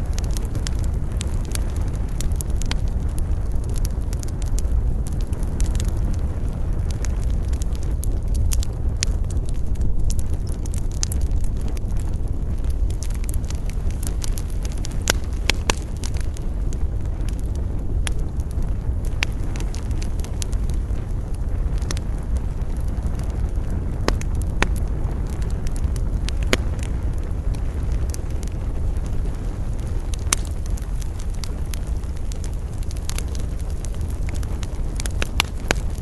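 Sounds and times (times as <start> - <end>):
campfire crackling and popping: 0.0 - 36.0
low rumble of wind: 0.0 - 36.0.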